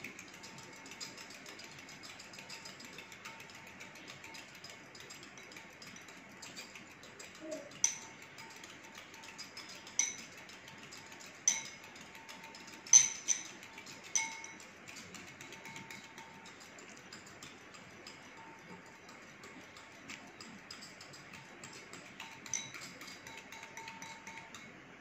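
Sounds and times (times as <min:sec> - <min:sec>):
whisk wires clinking on glass: 0:00.0 - 0:24.8
metal whisk ticking in glass bowl: 0:00.0 - 0:25.0.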